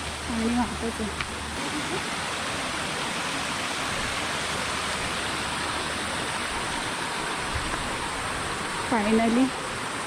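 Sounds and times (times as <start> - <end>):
water flowing: 0.0 - 10.0.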